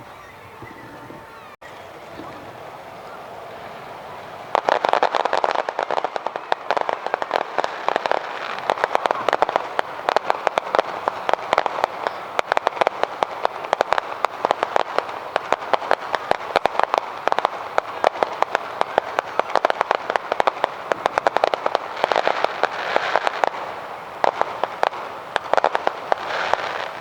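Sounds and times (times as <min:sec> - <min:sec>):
fireworks crackling: 0:00.9 - 0:27.0.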